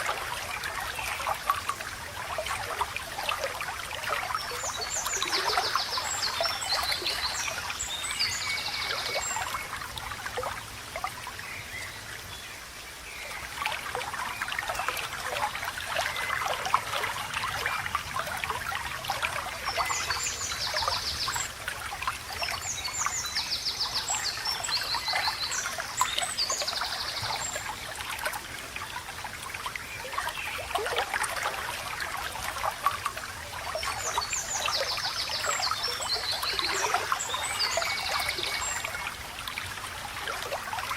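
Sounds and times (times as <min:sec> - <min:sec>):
stream trickling and babbling: 0:00.0 - 0:40.9.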